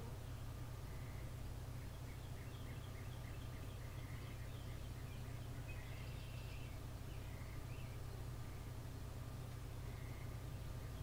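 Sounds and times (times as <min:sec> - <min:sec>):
bird singing: 0:00.0 - 0:08.8, 0:09.7 - 0:11.0
steady low hum: 0:00.0 - 0:11.0.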